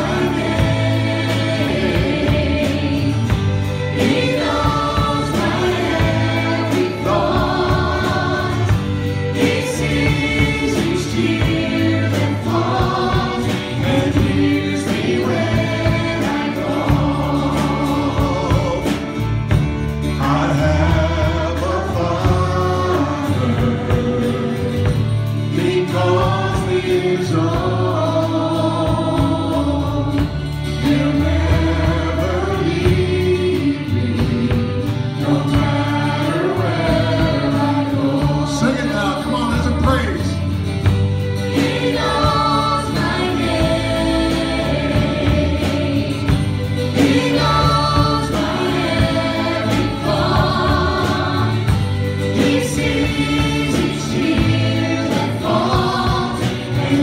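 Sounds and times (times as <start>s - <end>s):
drums: 0.0s - 57.0s
group of singers singing: 0.0s - 57.0s.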